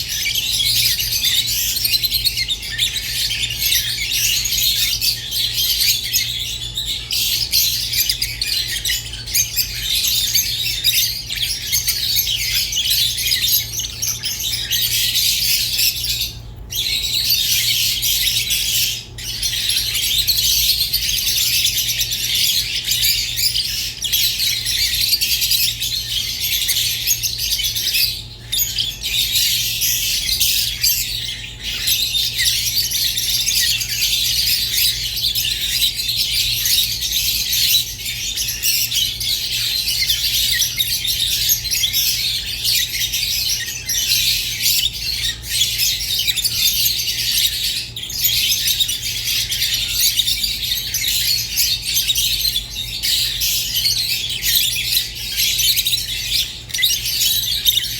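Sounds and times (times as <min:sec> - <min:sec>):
lovebirds chattering and squawking: 0:00.0 - 0:57.9.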